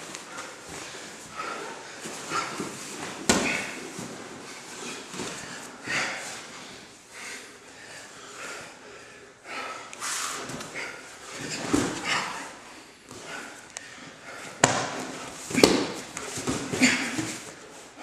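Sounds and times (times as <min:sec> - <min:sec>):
heavy breathing: 0:00.0 - 0:18.0.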